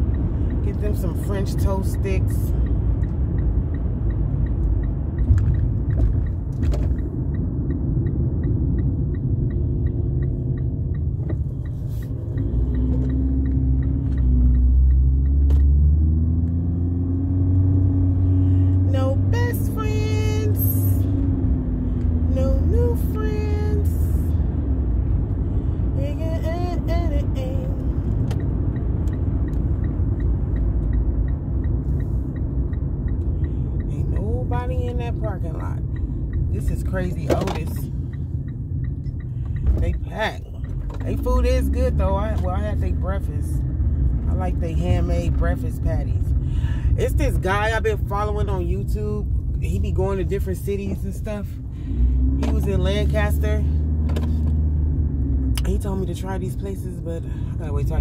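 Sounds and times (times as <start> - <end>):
car road and engine rumble: 0.0 - 58.0
turn signal ticking: 0.0 - 58.0.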